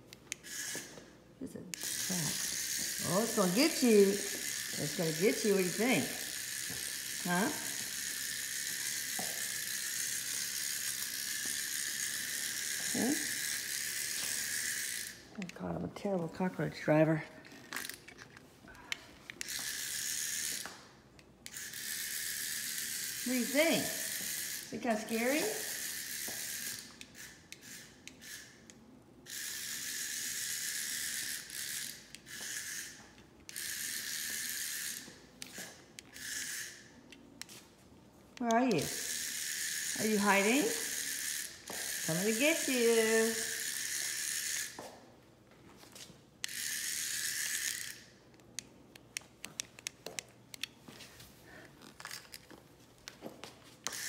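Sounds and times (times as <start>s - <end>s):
toy electric motor whirring: 0.3s - 15.7s, 16.3s - 37.7s, 38.3s - 45.0s, 45.8s - 50.7s, 51.5s - 53.2s.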